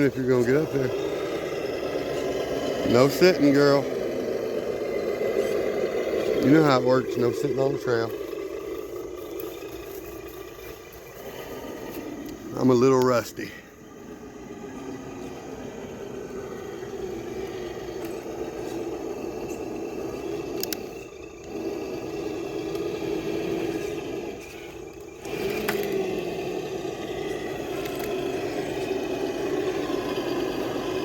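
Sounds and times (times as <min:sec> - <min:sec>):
electric motor and gears whining: 0:00.0 - 0:31.0.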